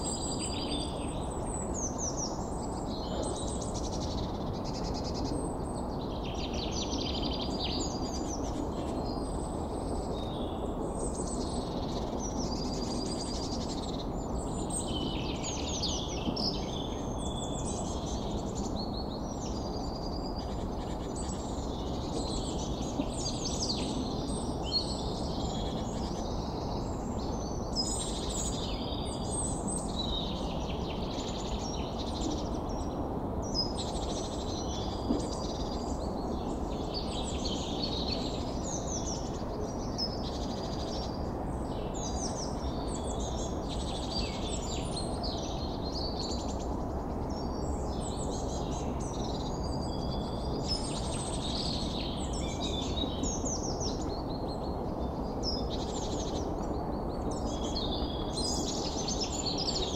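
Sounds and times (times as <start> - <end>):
low background noise: 0.0 - 59.9
many birds chirping and trilling: 0.0 - 59.9.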